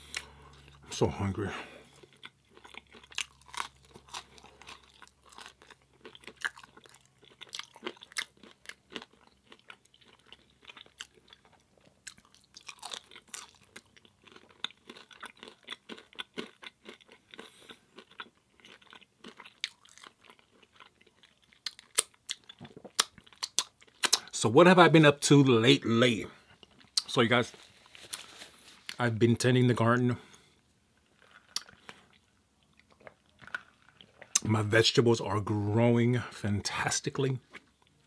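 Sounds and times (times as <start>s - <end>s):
person chewing crunchy food: 0.0s - 24.3s, 26.4s - 29.0s, 30.2s - 34.4s.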